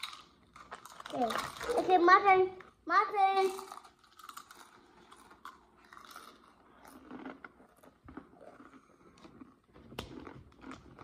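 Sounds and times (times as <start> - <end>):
chewing crunchy chips: 0.0 - 2.8, 3.4 - 11.0.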